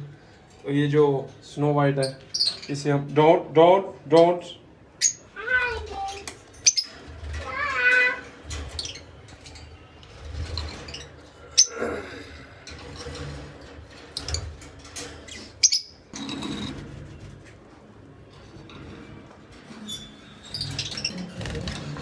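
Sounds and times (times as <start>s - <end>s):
cage birds chirping: 0.0s - 22.0s.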